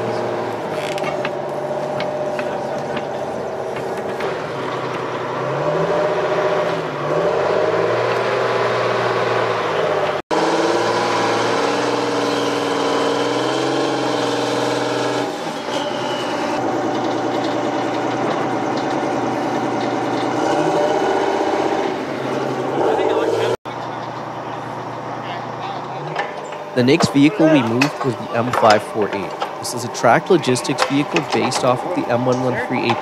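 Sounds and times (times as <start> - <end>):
diesel engine revving: 0.0 - 33.0.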